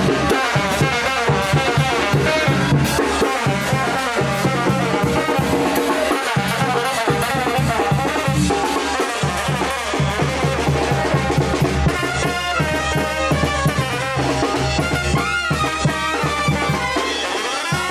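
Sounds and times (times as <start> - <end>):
music with brass and drums: 0.0 - 17.9.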